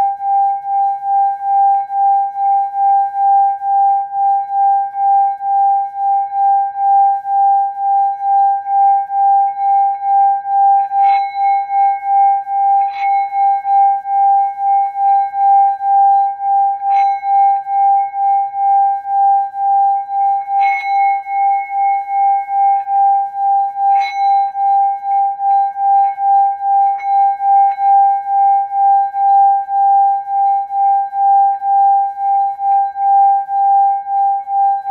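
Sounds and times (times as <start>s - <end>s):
singing bowl ringing: 0.0s - 34.9s.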